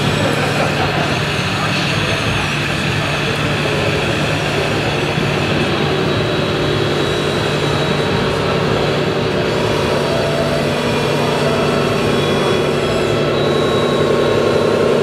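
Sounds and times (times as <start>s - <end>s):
model truck mechanical drone: 0.0s - 15.0s.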